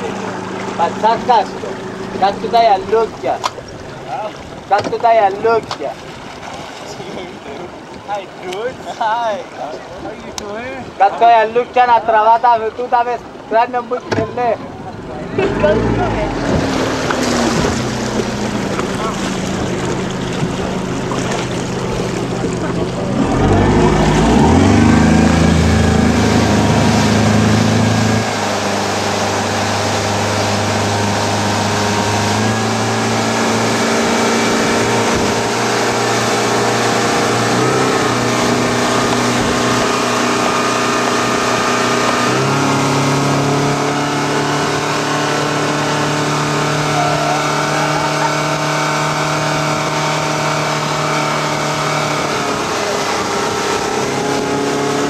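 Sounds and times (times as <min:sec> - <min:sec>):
outboard motor: 0:00.0 - 0:55.0
water rushing in wake: 0:00.0 - 0:55.0.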